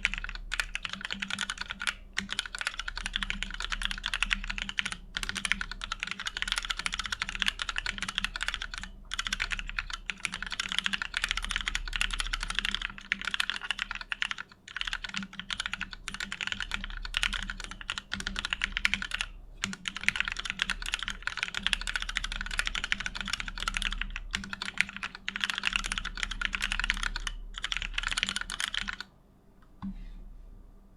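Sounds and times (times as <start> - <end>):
fast typing on mechanical keyboard: 0.0 - 29.1
faint low hum: 0.0 - 30.9.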